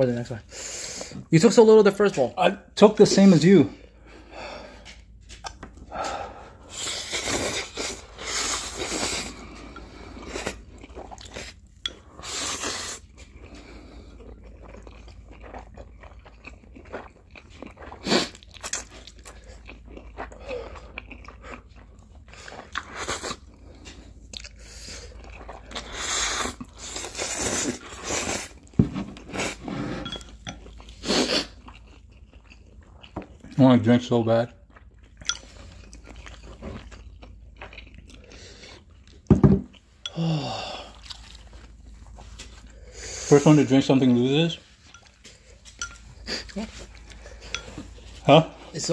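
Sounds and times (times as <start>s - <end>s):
slurping and chewing noodles: 3.8s - 48.9s.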